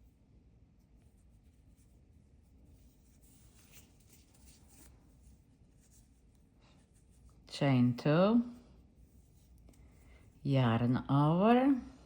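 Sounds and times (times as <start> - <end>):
soft rustling of yarn and hook: 0.0 - 12.0.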